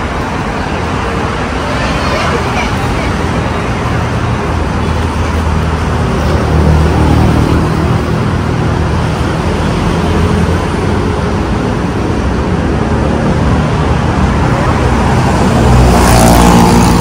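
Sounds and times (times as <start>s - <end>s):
city road traffic: 0.0s - 17.0s
motorbikes running: 0.0s - 17.0s.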